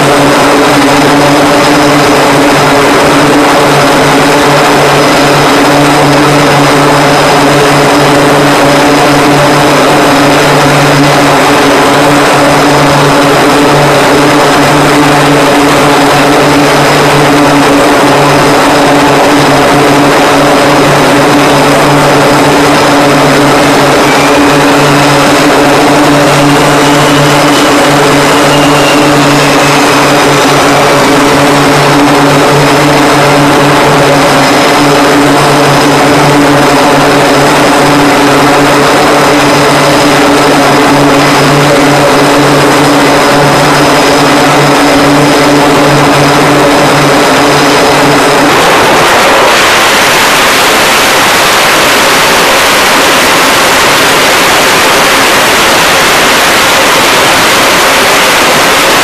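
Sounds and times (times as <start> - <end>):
aircraft engine drone: 0.0 - 59.0
jet engine rush: 0.0 - 59.0.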